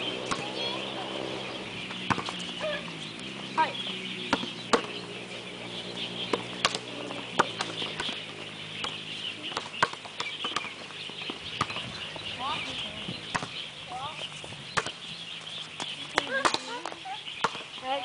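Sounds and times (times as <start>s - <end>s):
volleyballs slapping and bouncing: 0.0s - 18.0s.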